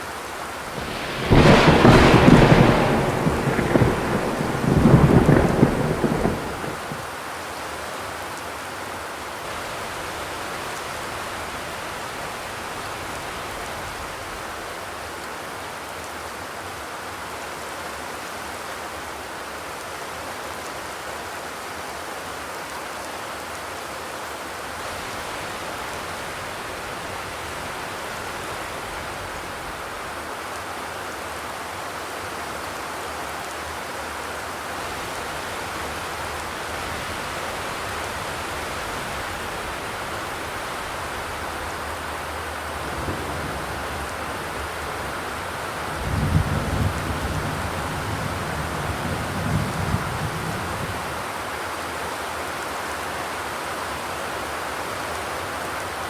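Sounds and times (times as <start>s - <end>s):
rain on a metal roof: 0.0s - 56.0s.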